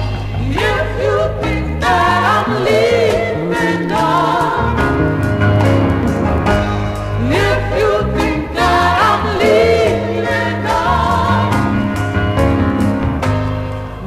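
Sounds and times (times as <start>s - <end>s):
gospel group singing in harmony: 0.0s - 12.8s
band accompaniment with bass line: 0.0s - 14.0s.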